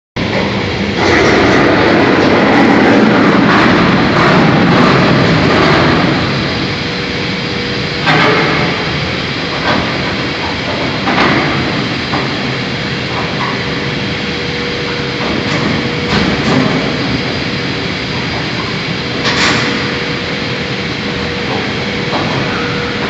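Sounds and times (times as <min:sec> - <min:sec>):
crane grinding metal on metal: 0:00.2 - 0:23.0
steady hum: 0:00.2 - 0:23.0.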